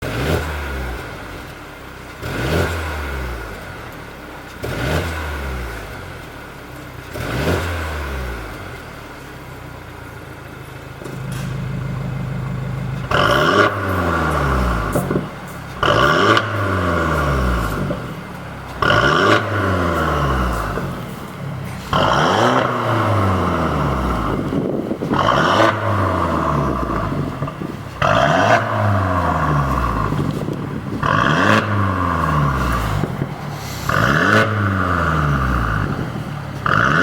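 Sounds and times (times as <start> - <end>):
car engine revving: 0.0 - 9.0, 11.0 - 37.0.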